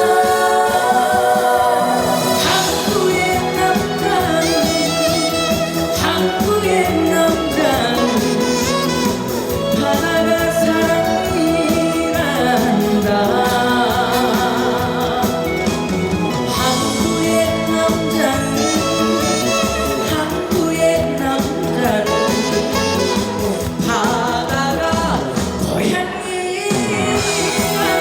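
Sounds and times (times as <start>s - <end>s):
backing band playing: 0.0s - 28.0s
person singing with vibrato: 0.0s - 28.0s.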